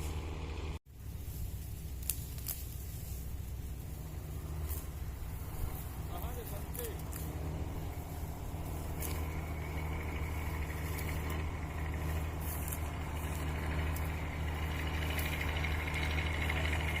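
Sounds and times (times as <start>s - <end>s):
harvester engine low hum: 0.0s - 17.0s
high mechanical whine: 0.0s - 17.0s.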